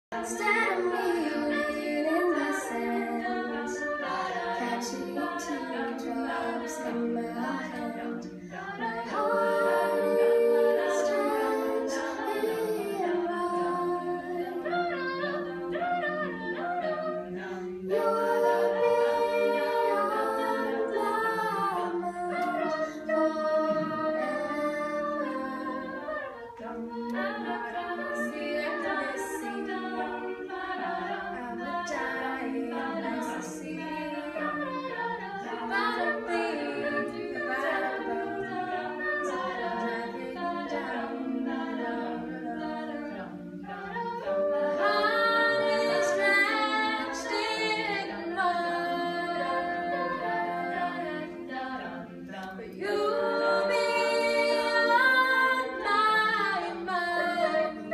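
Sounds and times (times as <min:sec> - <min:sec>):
female group singing a cappella: 0:00.0 - 0:57.9.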